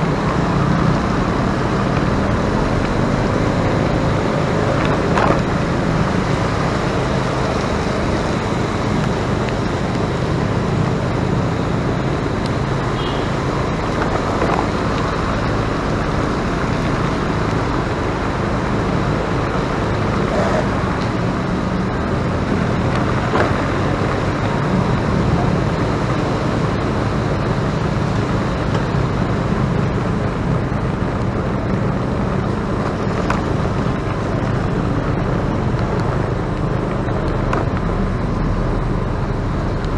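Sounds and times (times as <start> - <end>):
road vehicle rumble: 0.0 - 39.9.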